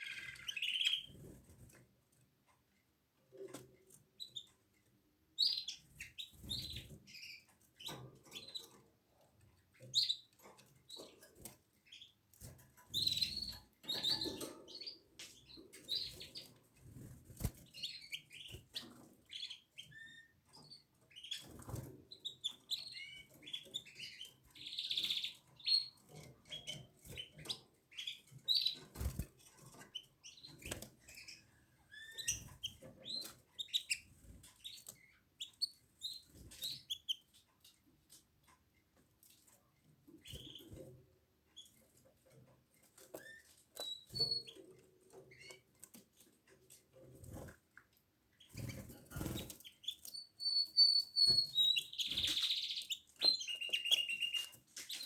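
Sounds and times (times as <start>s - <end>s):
birds rustling in a cage: 0.0s - 2.4s, 5.6s - 55.0s
canaries chirping: 0.0s - 2.7s, 3.3s - 55.0s.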